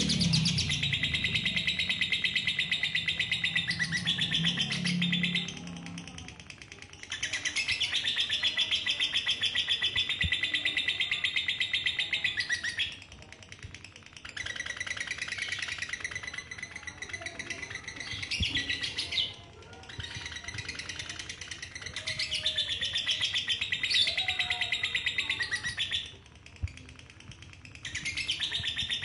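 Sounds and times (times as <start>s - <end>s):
lovebird chattering trill: 0.0s - 13.1s, 13.8s - 26.8s, 27.5s - 29.0s.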